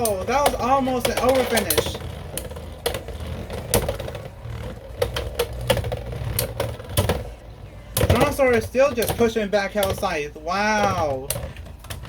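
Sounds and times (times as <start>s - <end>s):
spinning hum: 0.0s - 12.0s.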